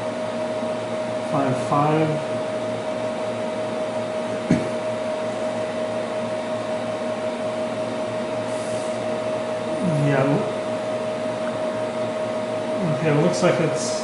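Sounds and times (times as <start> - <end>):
cooling fans whirring: 0.0 - 14.0
mid-pitched hum: 0.0 - 14.0.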